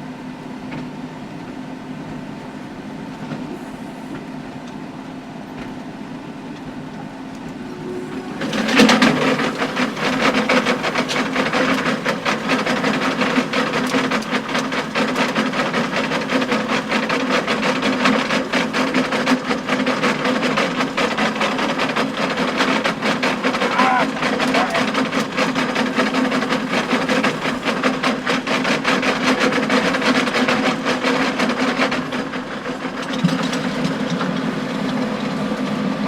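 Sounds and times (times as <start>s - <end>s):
tractor and harrow running: 0.0s - 36.0s.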